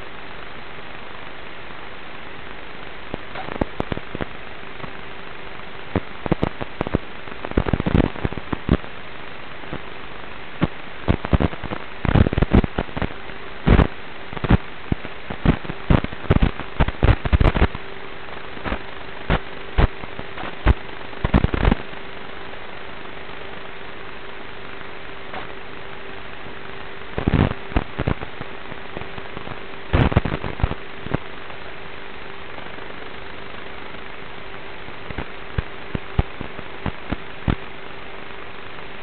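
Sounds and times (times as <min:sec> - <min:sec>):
faint hum: 0:00.0 - 0:39.0
steady hiss: 0:00.0 - 0:39.0.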